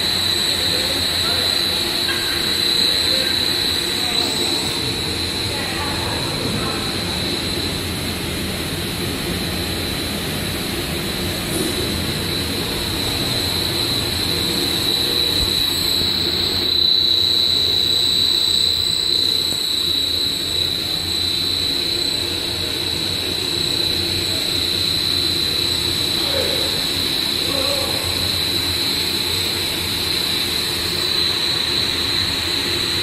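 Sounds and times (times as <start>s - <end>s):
high-pitched machine whine: 0.0s - 33.0s
machine drone and rumble: 0.0s - 33.0s.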